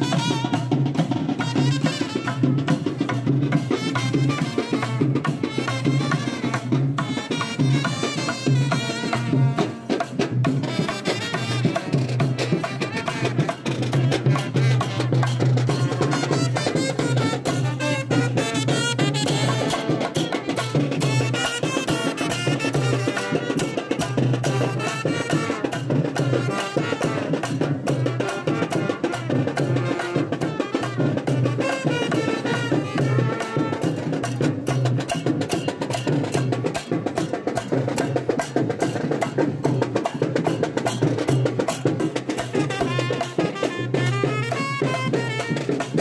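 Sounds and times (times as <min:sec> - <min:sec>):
fast drumming: 0:00.0 - 0:46.0.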